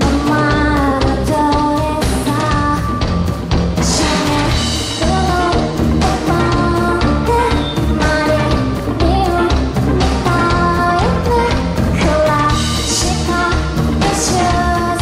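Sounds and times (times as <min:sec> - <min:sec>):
woman singing: 0:00.0 - 0:03.2, 0:03.8 - 0:15.0
pop band playing live: 0:00.0 - 0:15.0.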